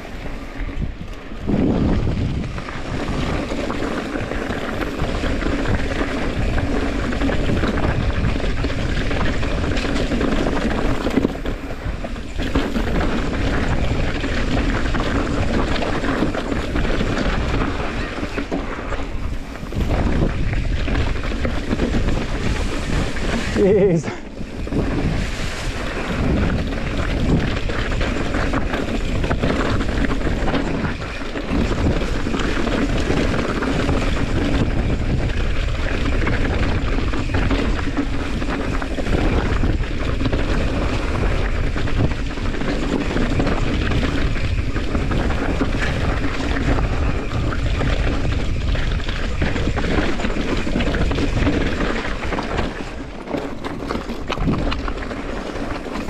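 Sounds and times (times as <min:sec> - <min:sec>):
bike rattling over bumps: 0:00.0 - 0:56.0
bike tyres on gravel: 0:00.0 - 0:56.0
wind rushing over microphone: 0:00.0 - 0:56.0.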